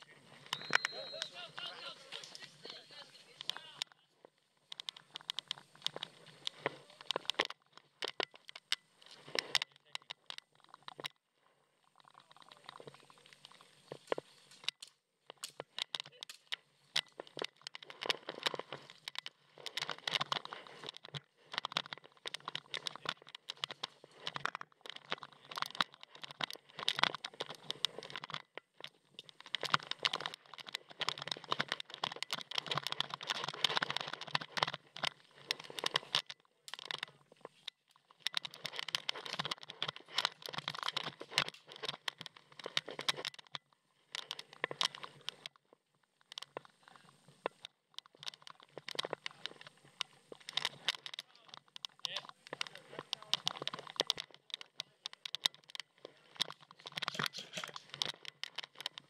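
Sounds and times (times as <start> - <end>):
gear rubbing against camera: 0.0 - 59.0.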